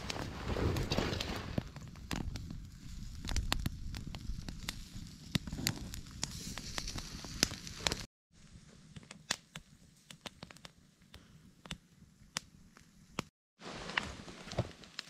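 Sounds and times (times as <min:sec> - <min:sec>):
campfire crackling and popping: 0:00.0 - 0:08.1, 0:08.7 - 0:15.0.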